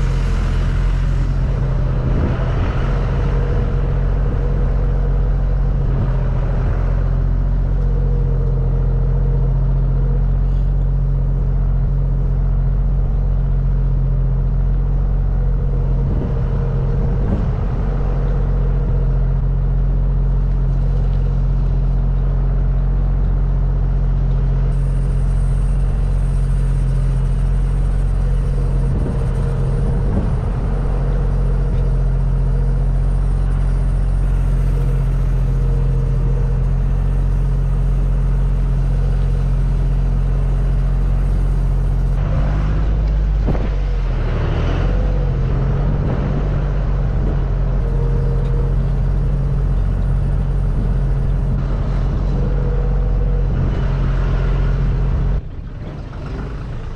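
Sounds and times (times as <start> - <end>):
tractor engine droning: 0.0 - 56.9.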